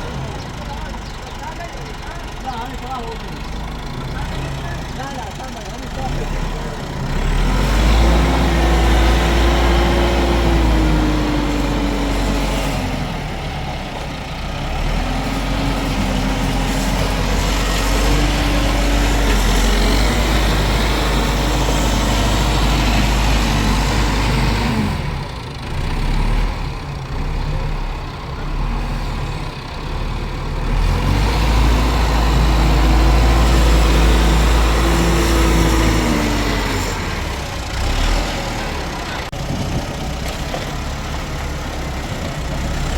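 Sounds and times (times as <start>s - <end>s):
heavy engine rumbling and whining: 0.0s - 42.9s.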